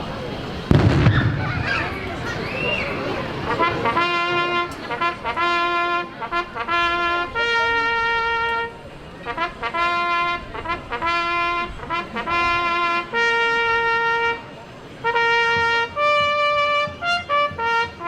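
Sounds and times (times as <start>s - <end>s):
brass instruments playing a march: 3.3s - 18.0s.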